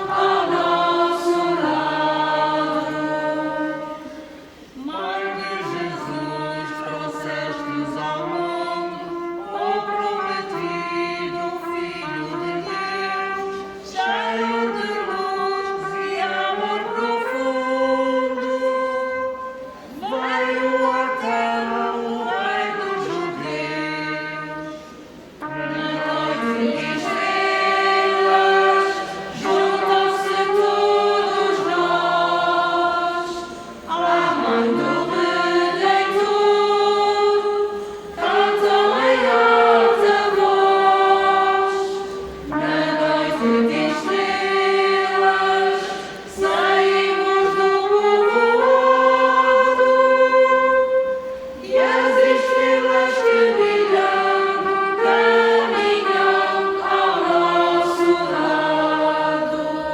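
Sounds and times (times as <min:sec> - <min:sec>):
vocal group singing: 0:00.0 - 0:59.9.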